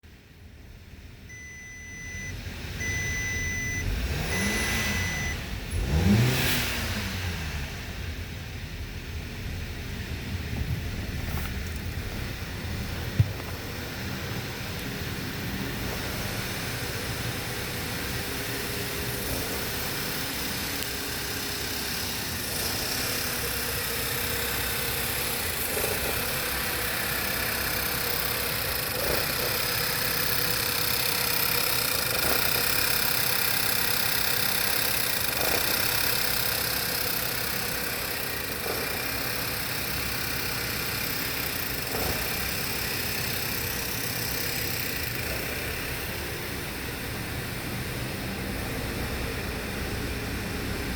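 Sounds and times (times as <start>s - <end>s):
car engine idling: 0.1s - 50.9s.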